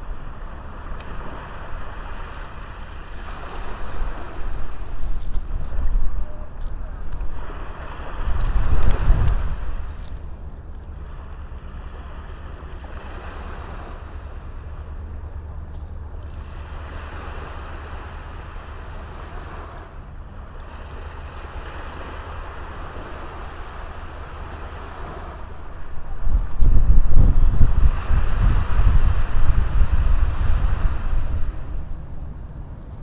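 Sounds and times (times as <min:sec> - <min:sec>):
small waves washing onto beach: 0:00.0 - 0:33.0
wind rumble on microphone: 0:00.0 - 0:33.0.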